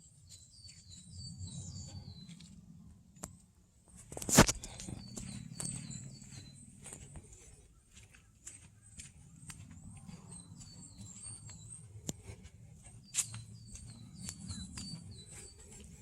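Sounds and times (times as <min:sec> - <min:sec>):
birds chirping: 0:00.0 - 0:16.0
footsteps crunching on a track: 0:00.3 - 0:16.0.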